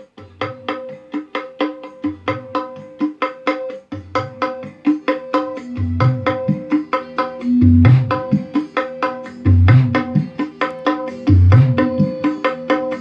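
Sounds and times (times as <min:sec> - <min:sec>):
hand-drum beats: 0:00.0 - 0:13.0.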